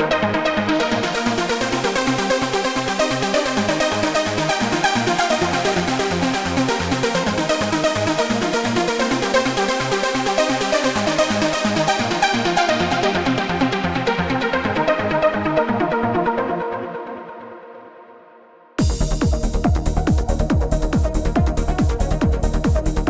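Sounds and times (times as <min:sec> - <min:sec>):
synthesizer playing trance: 0:00.0 - 0:17.0, 0:18.8 - 0:23.0.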